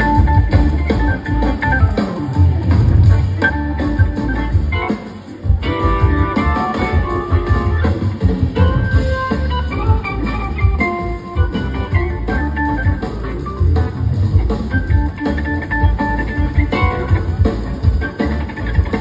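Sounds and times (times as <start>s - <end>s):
bass: 0.0s - 19.0s
drums: 0.0s - 19.0s
electric guitar solo: 0.0s - 19.0s
organ: 0.0s - 19.0s.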